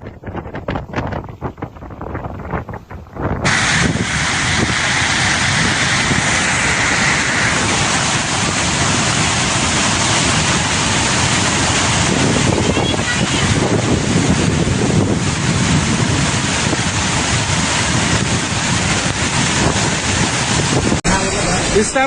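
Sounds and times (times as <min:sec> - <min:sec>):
wind buffeting microphone: 0:00.0 - 0:22.0
river rushing: 0:03.4 - 0:22.0.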